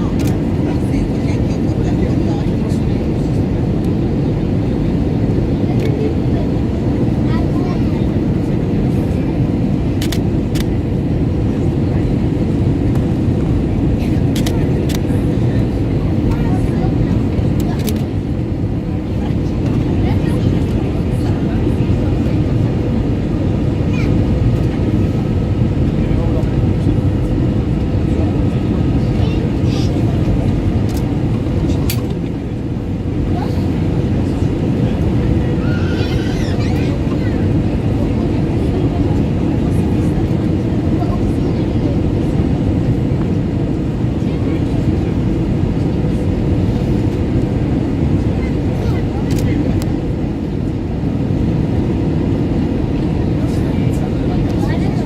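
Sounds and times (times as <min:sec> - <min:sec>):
airplane cabin engine roar: 0:00.0 - 0:55.0.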